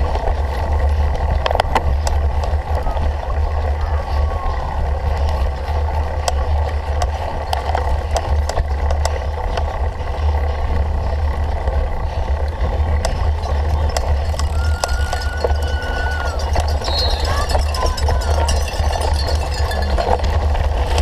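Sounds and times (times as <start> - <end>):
bike clicks and rattles: 0.0 - 21.0
bike tyres rolling: 0.0 - 21.0
wind rumble on microphone: 0.0 - 21.0.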